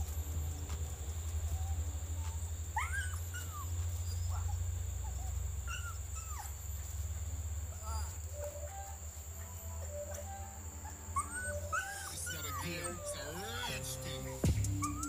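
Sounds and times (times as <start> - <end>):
steady low rumble: 0.0 - 15.0
puppies whimpering and yipping: 1.3 - 15.0.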